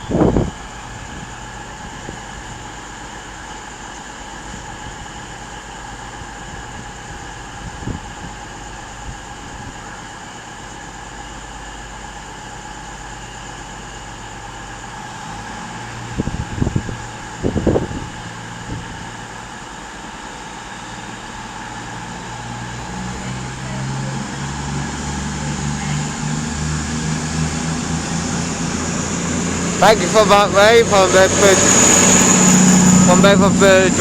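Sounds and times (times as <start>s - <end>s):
diesel train engines whining: 0.0s - 34.0s.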